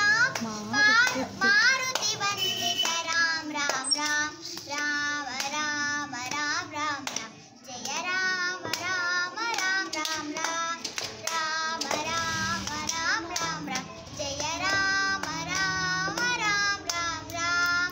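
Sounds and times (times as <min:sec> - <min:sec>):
girl singing devotional song: 0:00.0 - 0:17.9.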